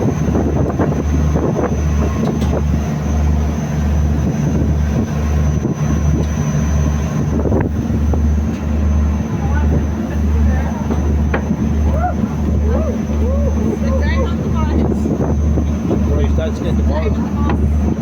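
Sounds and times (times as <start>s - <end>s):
boat engine rumbling: 0.0s - 18.0s
wind buffeting microphone: 0.0s - 18.0s.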